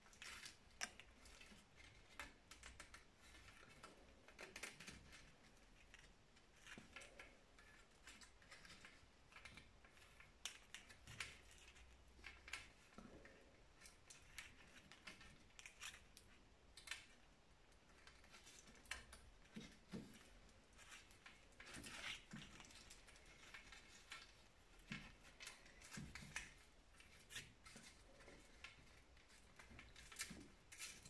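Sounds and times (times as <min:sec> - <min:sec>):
handling noise of hands and wood: 0:00.0 - 0:31.0.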